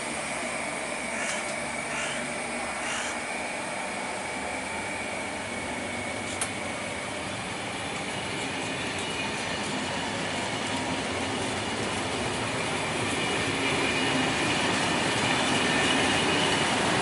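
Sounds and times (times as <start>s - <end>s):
train wheels rushing on track: 0.0s - 17.0s.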